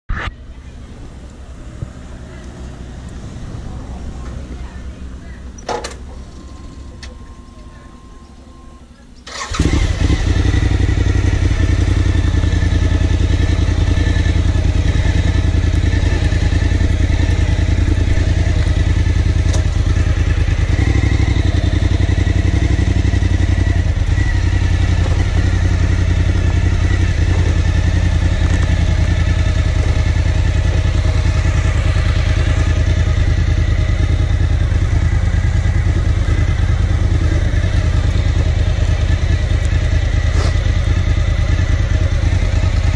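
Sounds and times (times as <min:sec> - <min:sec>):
motorcycle engine starting and idling: 0:00.4 - 0:42.9.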